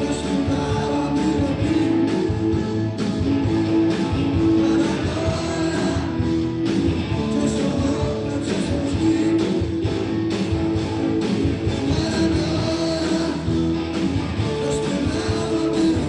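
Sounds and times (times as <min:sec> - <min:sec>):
blues-rock band playing: 0:00.0 - 0:16.0.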